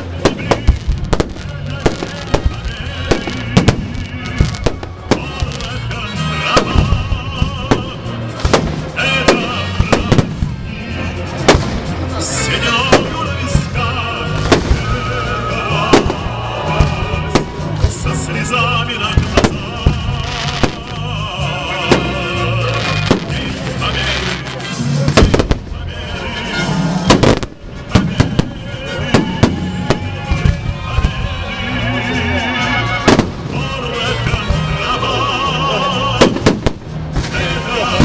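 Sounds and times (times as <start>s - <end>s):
fireworks bangs: 0.0s - 26.0s, 26.6s - 31.4s, 33.0s - 34.8s, 36.1s - 38.0s
voices: 0.0s - 36.5s, 37.2s - 38.0s
music: 0.0s - 38.0s.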